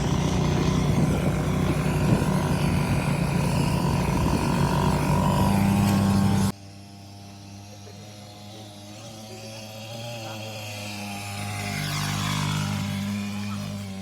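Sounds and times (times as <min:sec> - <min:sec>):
small two-stroke engine running: 0:00.0 - 0:14.0.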